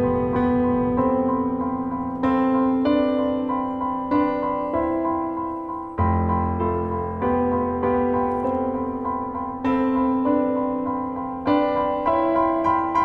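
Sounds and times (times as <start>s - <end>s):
gentle solo piano: 0.0s - 13.0s.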